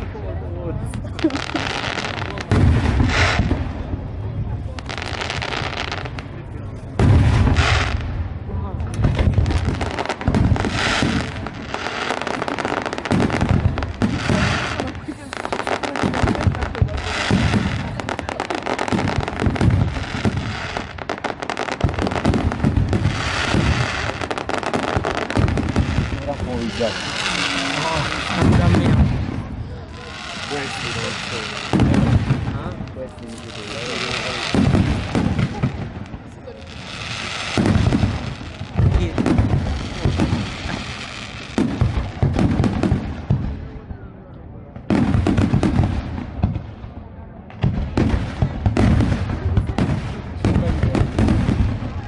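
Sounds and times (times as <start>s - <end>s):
fireworks bangs and booms: 0.0s - 52.0s
fireworks crackling: 0.0s - 52.0s.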